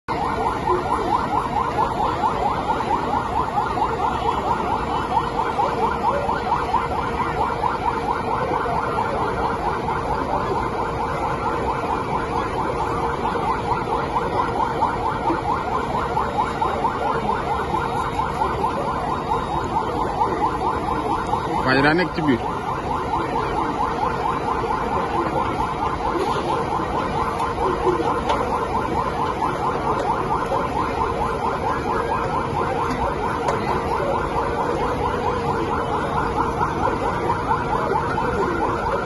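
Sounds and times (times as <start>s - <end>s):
large crowd noise: 0.0s - 39.0s
police siren yelping: 0.0s - 39.0s.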